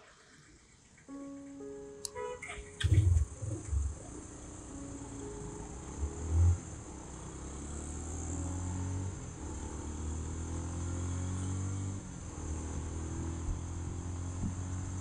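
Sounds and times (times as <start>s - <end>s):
motorcycle engine running: 2.8s - 15.0s.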